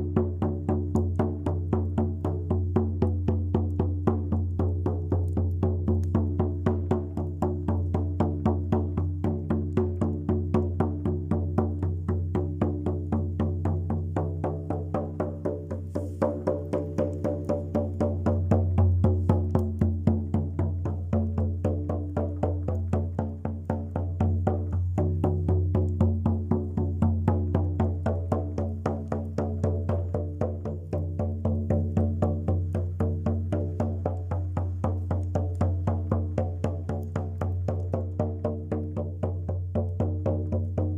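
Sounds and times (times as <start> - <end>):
regular struck beats: 0.0 - 40.9.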